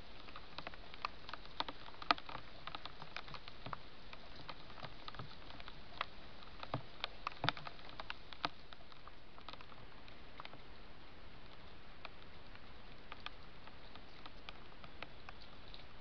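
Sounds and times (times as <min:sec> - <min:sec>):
animals eating clicks and crunches: 0:00.0 - 0:16.0
steady hiss: 0:00.0 - 0:16.0.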